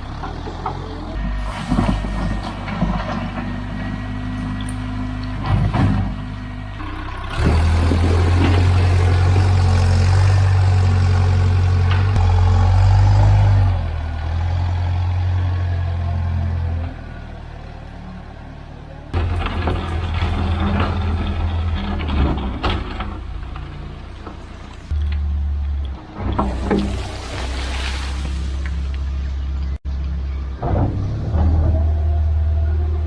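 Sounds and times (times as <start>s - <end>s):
wheel loader engine revving: 0.0s - 33.0s.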